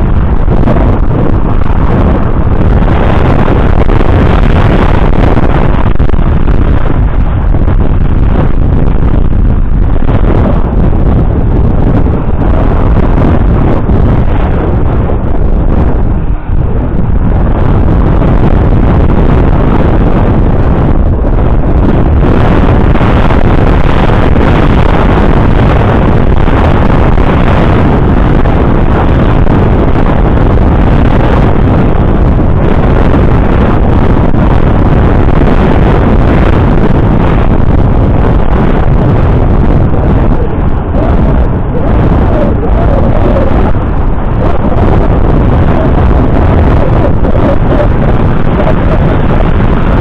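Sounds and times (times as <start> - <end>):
wind buffeting the microphone: 0.0 - 50.0.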